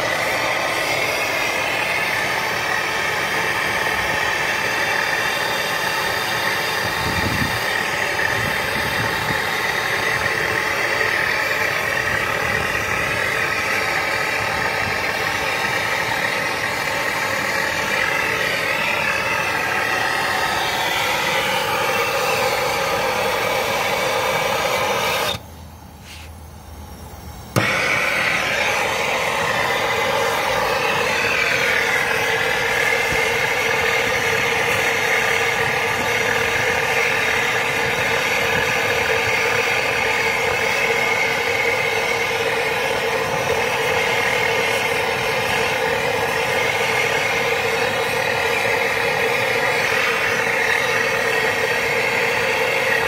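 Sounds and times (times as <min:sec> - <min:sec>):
machine running steadily: 0:00.0 - 0:53.0.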